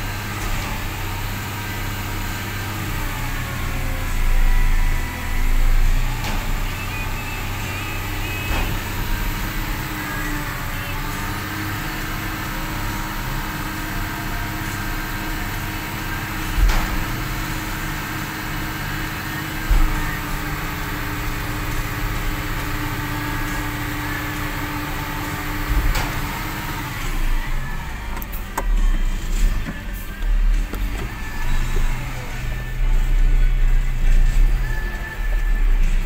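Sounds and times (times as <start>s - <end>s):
diesel truck engine running: 0.0s - 36.0s.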